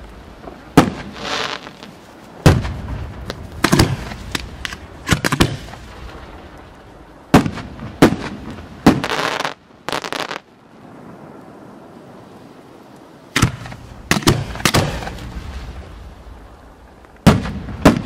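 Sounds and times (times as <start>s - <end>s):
fireworks crackling: 0.0s - 18.0s.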